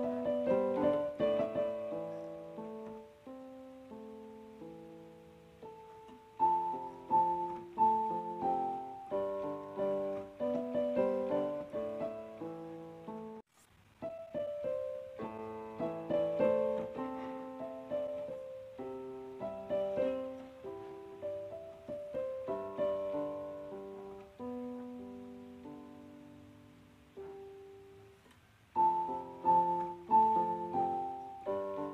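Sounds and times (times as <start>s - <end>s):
gentle piano music: 0.0s - 31.9s.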